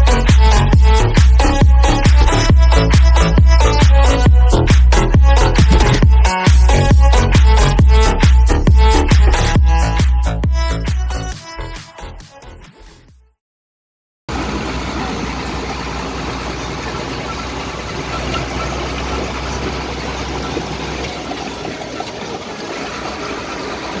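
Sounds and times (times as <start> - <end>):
tractor engine running: 0.0 - 10.0, 14.3 - 24.0.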